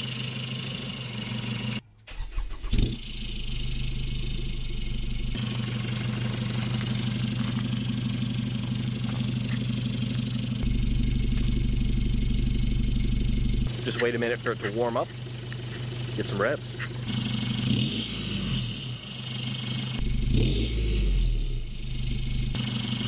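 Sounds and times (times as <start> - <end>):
diesel engine cranking and starting: 0.0 - 23.0
diesel engine idling: 0.0 - 23.0.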